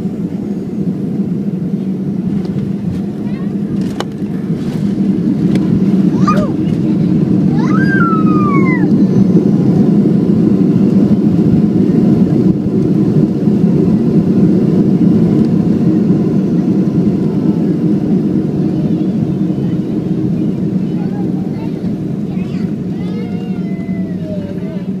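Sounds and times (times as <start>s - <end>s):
airplane cabin engine rumble: 0.0s - 25.0s.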